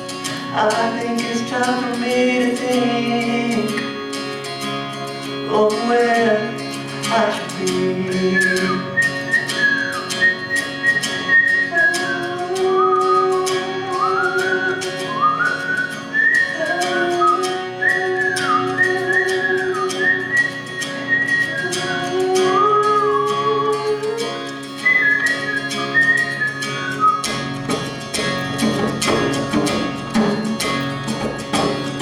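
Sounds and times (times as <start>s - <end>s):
guitar strumming: 0.0s - 32.0s
high sliding melody line: 0.6s - 32.0s.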